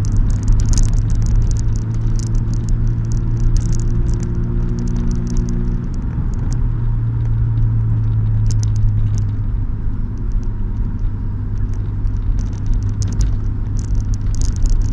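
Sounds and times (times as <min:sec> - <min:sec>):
car engine drone: 0:00.0 - 0:14.9
light ticks and rattles: 0:00.0 - 0:14.9.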